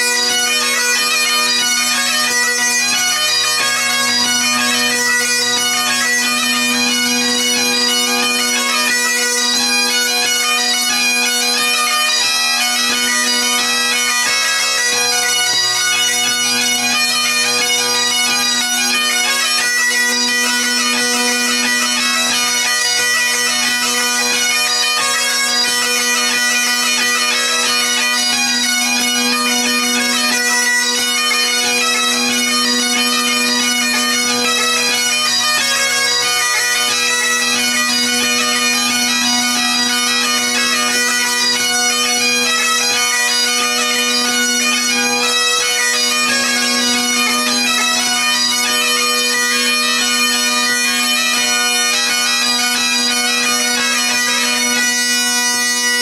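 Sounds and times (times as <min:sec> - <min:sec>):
bagpipes playing: 0:00.0 - 0:56.0.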